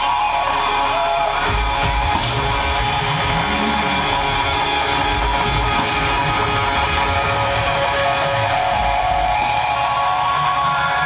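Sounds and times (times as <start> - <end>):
electric guitar: 0.0 - 11.0
live band music: 0.0 - 11.0
low pulsing bass: 0.0 - 11.0.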